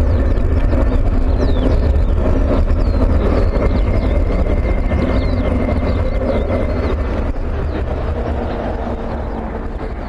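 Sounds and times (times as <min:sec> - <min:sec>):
fighter jet roar: 0:00.0 - 0:10.0.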